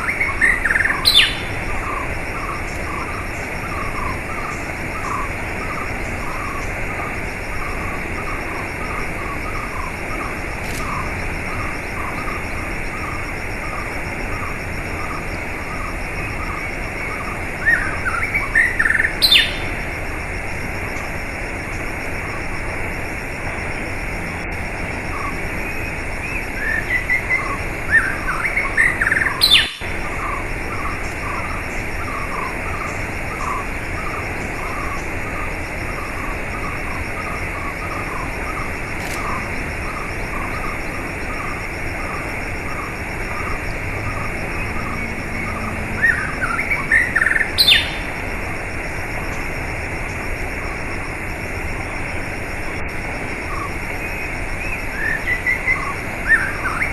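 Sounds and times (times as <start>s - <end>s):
bird calls: 0.0s - 19.8s, 25.1s - 48.2s, 53.4s - 56.9s
rushing water: 0.0s - 56.9s.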